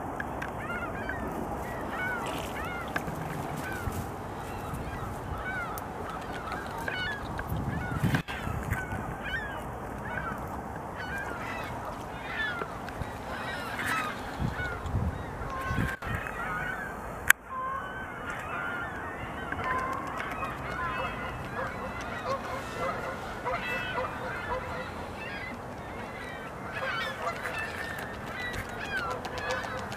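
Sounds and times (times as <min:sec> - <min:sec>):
geese honking: 0:00.6 - 0:29.9.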